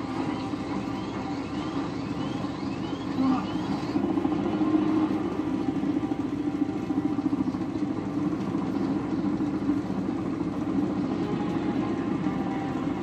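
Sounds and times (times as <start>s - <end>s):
helicopter rotor and engine noise: 0.0s - 13.0s.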